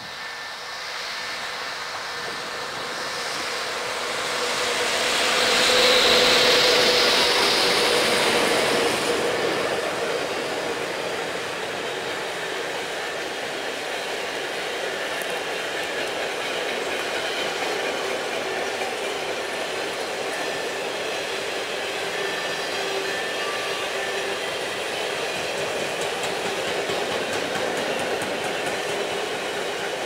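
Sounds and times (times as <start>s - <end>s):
freight train wheels rolling on rail: 0.0s - 30.0s.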